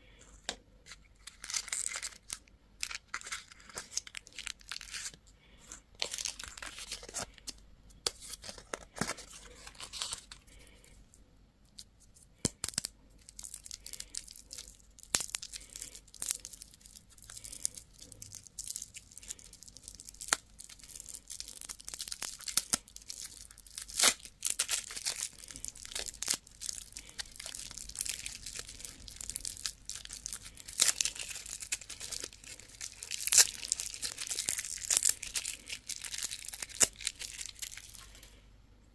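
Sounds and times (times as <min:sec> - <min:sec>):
packaging tearing and crinkling: 0:00.9 - 0:05.2, 0:06.0 - 0:07.5, 0:08.1 - 0:10.7, 0:12.4 - 0:38.2.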